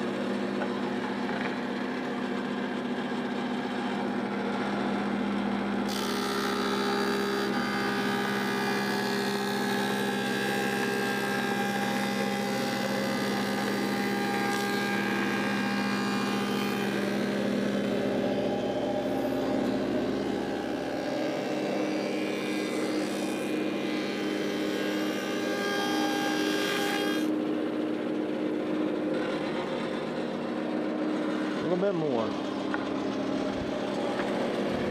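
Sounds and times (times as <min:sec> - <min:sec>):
thickness planer motor hum: 0:00.0 - 0:34.9.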